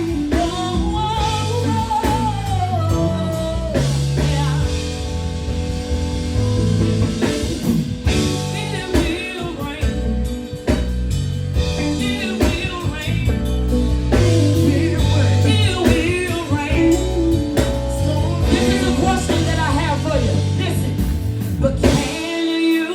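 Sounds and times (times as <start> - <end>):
woman singing: 0.0 - 5.0, 8.1 - 10.8, 11.8 - 22.9
backing music with bass and drums: 0.0 - 22.9.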